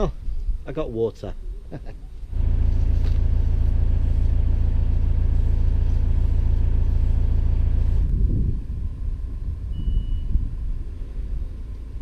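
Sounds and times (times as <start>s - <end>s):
boat engine low rumble: 2.3s - 12.0s.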